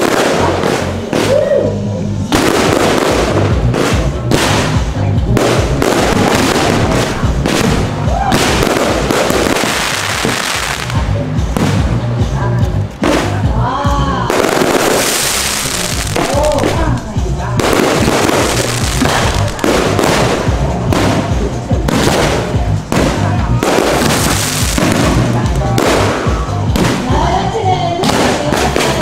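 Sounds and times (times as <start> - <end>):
fireworks bursting and crackling: 0.0 - 29.0
loud music: 0.0 - 29.0.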